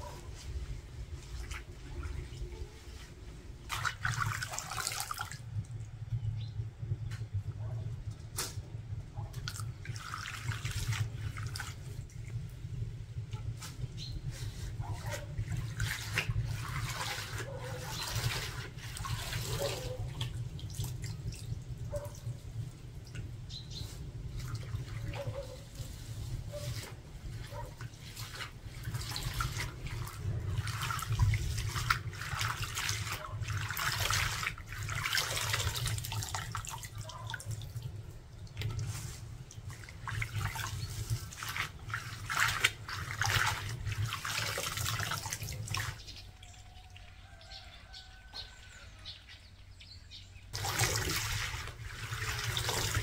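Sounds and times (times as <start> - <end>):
water splashing and dripping: 0.0 - 6.2, 6.8 - 49.5, 50.5 - 53.0.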